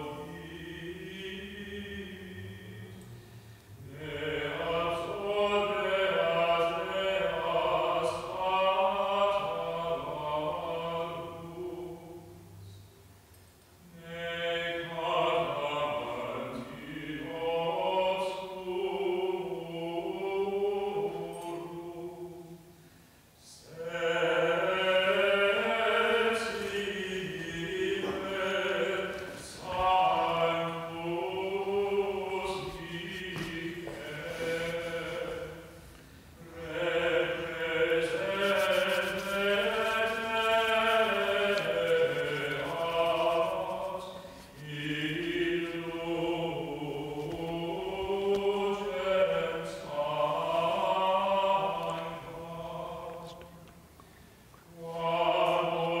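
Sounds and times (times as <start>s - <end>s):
liturgical chant: 0.0s - 56.0s.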